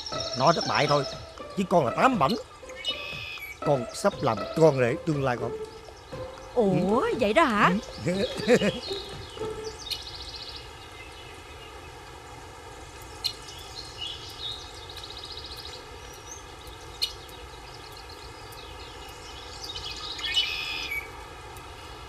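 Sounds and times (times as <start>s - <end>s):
background hiss: 0.0s - 22.0s
small birds chirping: 0.0s - 22.0s.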